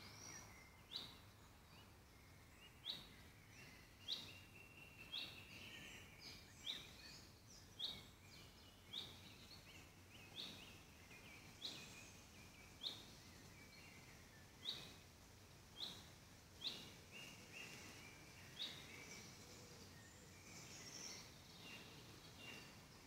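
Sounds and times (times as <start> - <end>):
soft high bird twittering: 0.0 - 15.1, 15.7 - 23.0.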